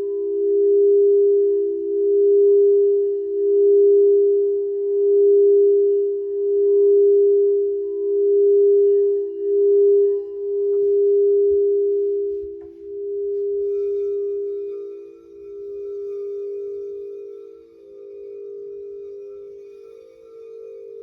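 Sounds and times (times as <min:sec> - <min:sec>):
singing bowl higher tone: 0:00.0 - 0:21.0
singing bowl low tone: 0:00.0 - 0:21.0.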